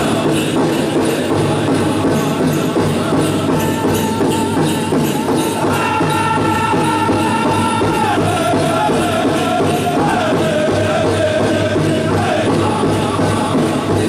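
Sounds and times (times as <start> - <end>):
high unison singing: 0.0 - 14.0
steady drumbeat: 0.0 - 14.0.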